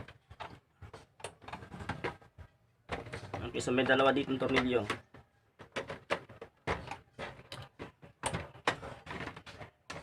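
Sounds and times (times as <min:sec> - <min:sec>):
clicks and scrapes on plastic housing: 0:00.0 - 0:10.0.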